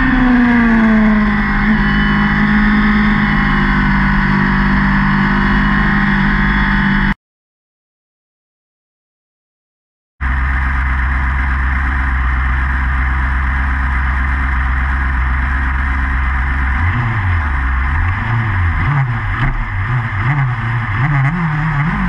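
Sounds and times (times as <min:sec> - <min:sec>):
motorcycle engine idling and revving: 0:00.0 - 0:07.2, 0:10.2 - 0:22.0.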